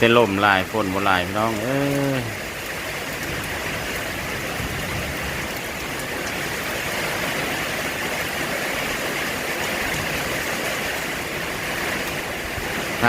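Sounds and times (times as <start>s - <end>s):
light rain falling: 0.0s - 13.0s
wind: 0.0s - 13.0s.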